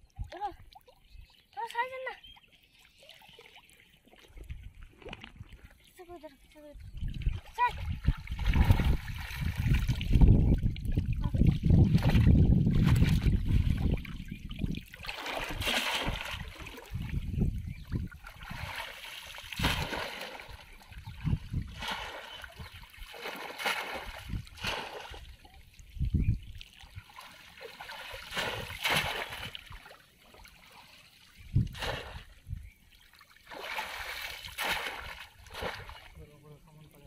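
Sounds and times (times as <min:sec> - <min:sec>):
shallow water splashing: 0:00.0 - 0:06.0, 0:06.7 - 0:36.6.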